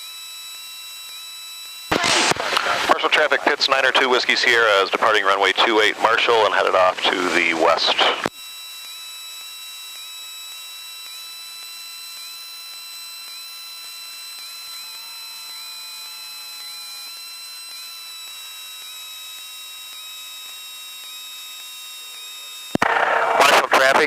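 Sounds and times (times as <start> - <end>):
high-pitched whine tones: 0.0 - 24.0.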